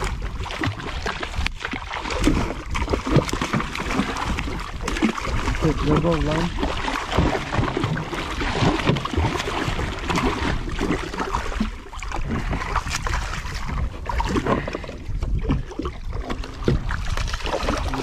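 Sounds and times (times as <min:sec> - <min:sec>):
shark thrashing and splashing: 0:00.0 - 0:18.0
water slapping against hull: 0:00.0 - 0:18.0.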